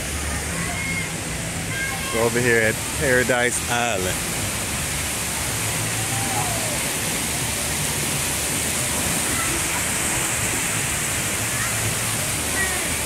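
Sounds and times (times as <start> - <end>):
water spraying and falling: 0.0 - 13.0.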